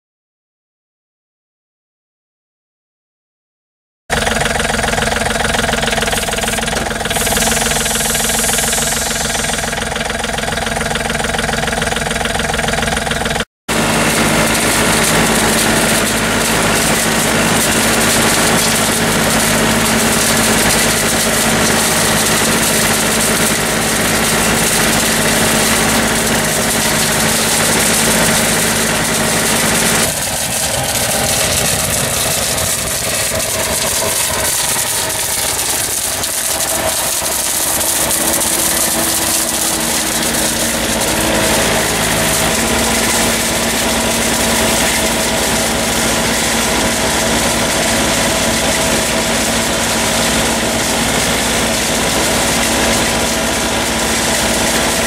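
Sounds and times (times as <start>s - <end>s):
tractor engine humming: 4.1s - 55.0s.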